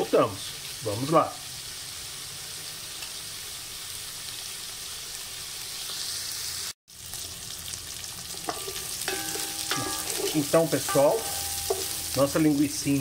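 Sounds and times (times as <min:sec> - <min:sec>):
sausage sizzling in a pot: 0:00.0 - 0:13.0.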